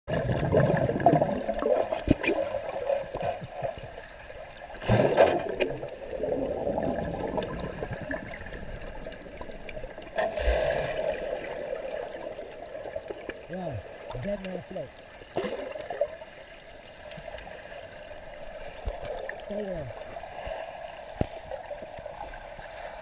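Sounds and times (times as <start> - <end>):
underwater bubbling: 0.1 - 23.0.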